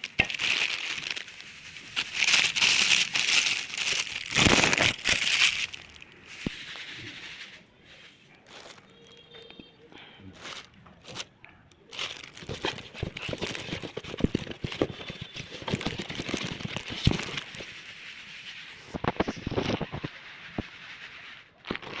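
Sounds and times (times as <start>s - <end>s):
handling rustling and crackling: 0.0s - 9.7s, 10.3s - 22.0s.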